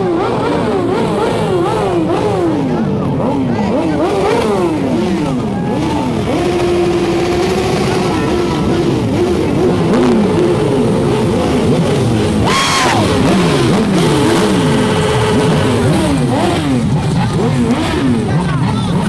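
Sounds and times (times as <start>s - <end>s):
motorcycles revving past: 0.0s - 19.0s.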